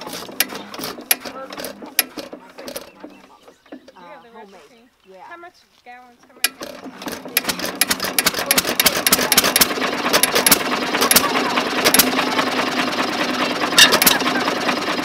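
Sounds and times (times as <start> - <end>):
engine clattering with knocks: 0.0 - 4.2, 6.4 - 15.0.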